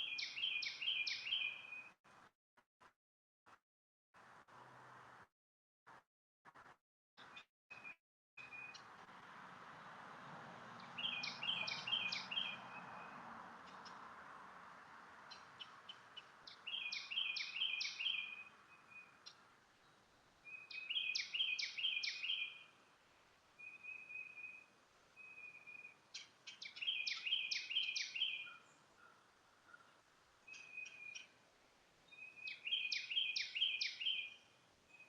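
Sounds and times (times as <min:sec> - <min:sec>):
faint outdoor background noise: 0:00.0 - 0:02.3, 0:04.2 - 0:05.3, 0:05.9 - 0:35.0
songbird chirping: 0:00.0 - 0:02.3, 0:07.2 - 0:10.0, 0:10.6 - 0:35.0.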